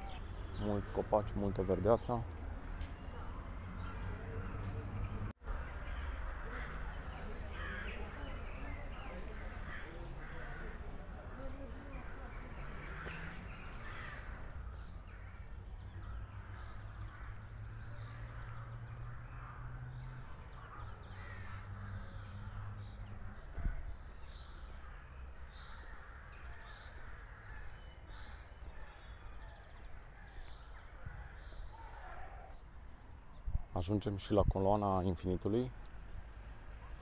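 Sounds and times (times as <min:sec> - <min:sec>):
birds calling: 0:00.0 - 0:37.0.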